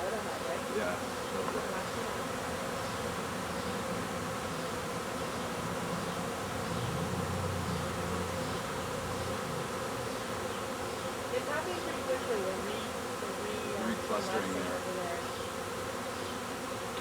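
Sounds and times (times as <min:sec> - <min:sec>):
bee swarm buzzing: 0:00.0 - 0:17.0.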